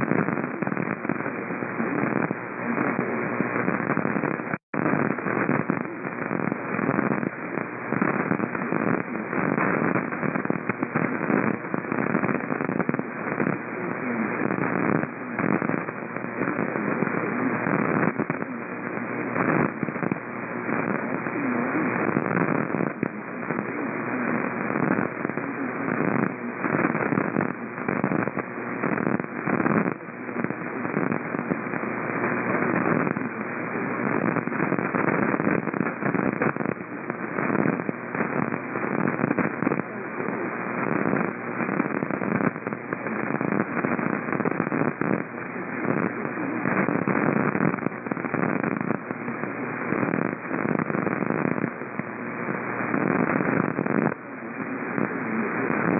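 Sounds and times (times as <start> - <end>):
radio static crackling hiss: 0.0 - 55.9.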